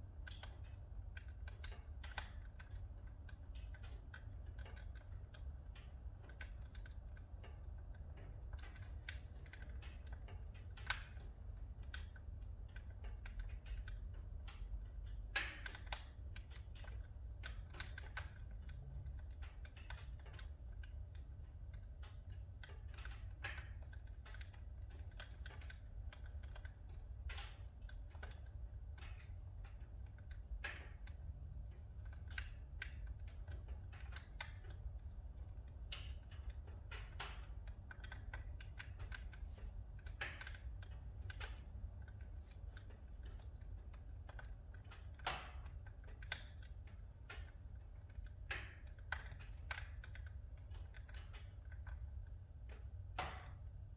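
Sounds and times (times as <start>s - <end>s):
firewood crackling and popping: 0.0s - 53.9s.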